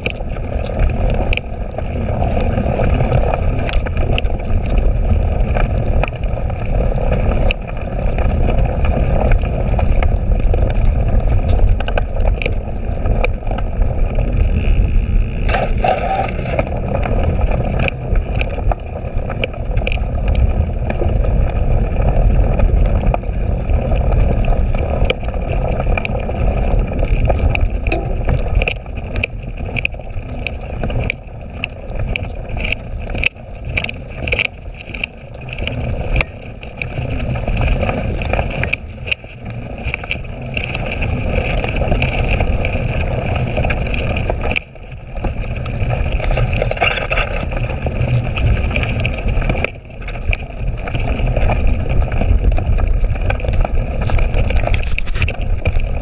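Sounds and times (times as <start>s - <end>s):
bike clicking and rattling: 0.0s - 56.0s
tyres rolling on rough ground: 0.0s - 56.0s
wind on microphone: 0.0s - 56.0s.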